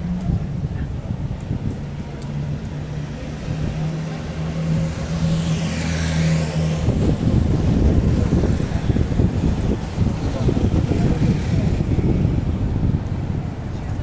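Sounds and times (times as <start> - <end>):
traffic rumble: 0.0 - 14.0
vehicle passing close by: 2.4 - 13.6.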